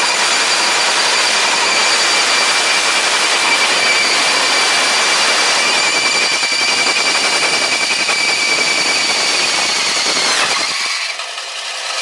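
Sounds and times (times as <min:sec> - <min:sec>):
cutoff disc grinding steel: 0:00.0 - 0:12.0.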